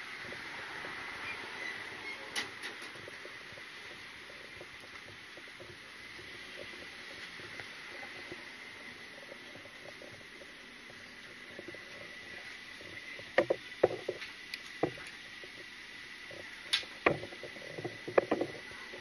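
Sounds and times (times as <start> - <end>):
street background noise: 0.0 - 19.0
faint ticks: 2.3 - 19.0.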